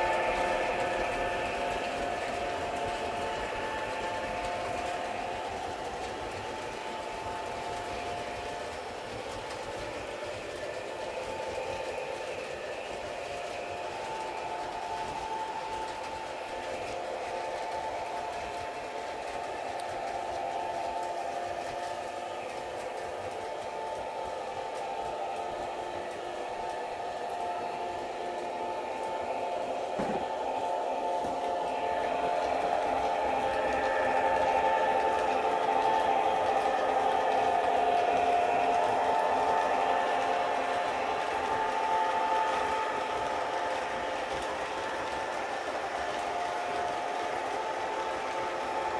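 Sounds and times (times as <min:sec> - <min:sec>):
model train wheels rolling: 0:00.0 - 0:48.9.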